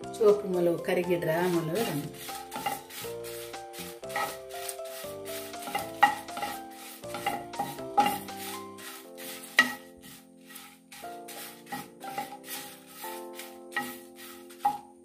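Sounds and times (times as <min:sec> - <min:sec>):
background music with held notes: 0:00.0 - 0:15.0
wooden spatula scraping pan: 0:00.2 - 0:15.0.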